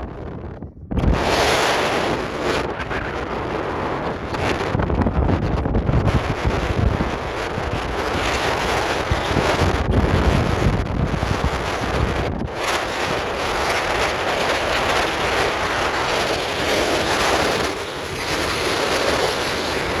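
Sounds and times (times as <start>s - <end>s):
blizzard wind gusting: 0.0s - 20.0s
wind buffeting microphone: 0.0s - 20.0s.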